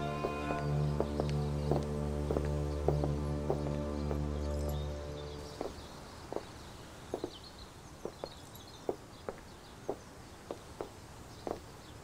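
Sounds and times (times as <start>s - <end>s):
birds chirping faintly: 0.0s - 12.0s
footsteps on stone paving: 0.0s - 12.0s.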